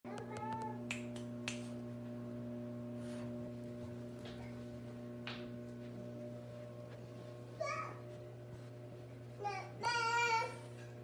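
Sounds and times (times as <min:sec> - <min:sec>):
electrical hum: 0:00.1 - 0:11.0.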